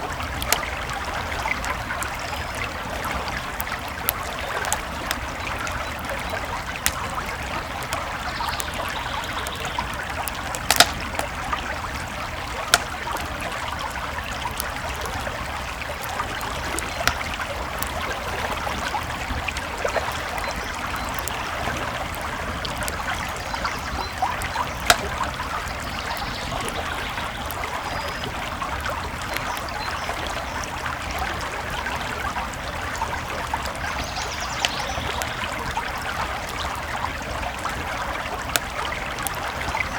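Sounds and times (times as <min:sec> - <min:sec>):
campfire crackling and popping: 0:00.0 - 0:39.9
creek flowing: 0:00.0 - 0:39.9.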